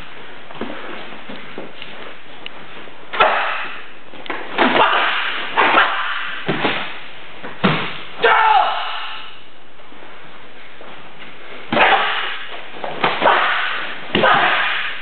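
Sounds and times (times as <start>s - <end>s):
feet striking mat: 0.0s - 8.3s, 9.8s - 15.0s.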